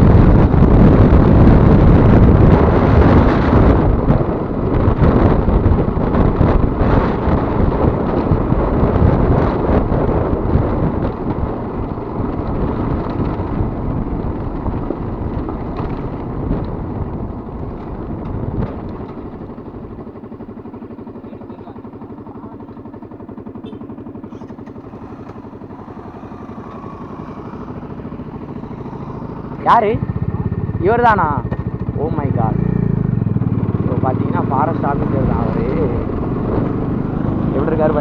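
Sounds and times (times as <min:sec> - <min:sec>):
wind noise on microphone: 0:00.0 - 0:20.0, 0:24.3 - 0:38.0
motorcycle engine running: 0:00.0 - 0:38.0.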